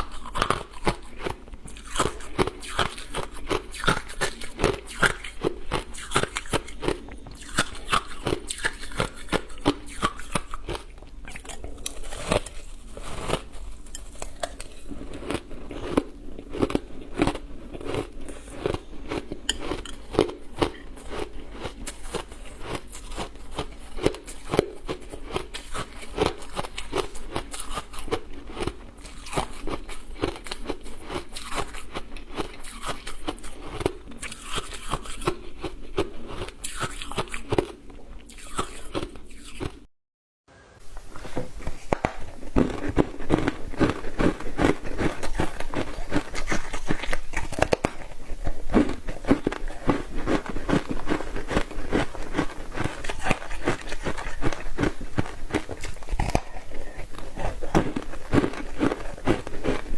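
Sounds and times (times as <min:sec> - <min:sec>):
ice crunching being chewed: 0:00.0 - 0:39.9, 0:41.2 - 0:59.9.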